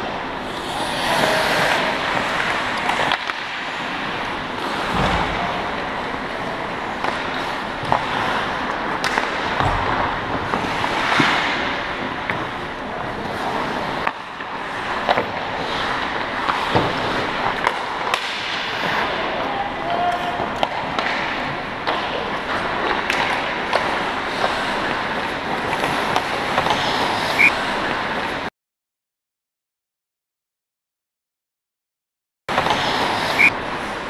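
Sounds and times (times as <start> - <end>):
sticks and puck clacking: 0.4 - 28.0, 32.5 - 34.0
skates scraping on ice: 0.4 - 28.5, 32.5 - 34.0.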